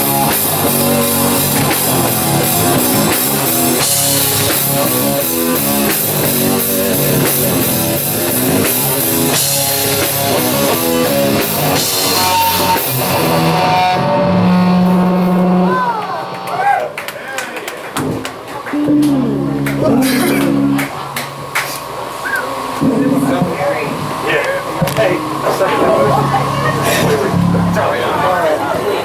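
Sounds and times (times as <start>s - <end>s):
bass guitar: 0.0s - 16.8s, 18.0s - 29.0s
drum kit beats: 0.0s - 16.8s, 17.9s - 29.0s
distorted electric guitar: 0.0s - 16.9s, 18.0s - 29.0s.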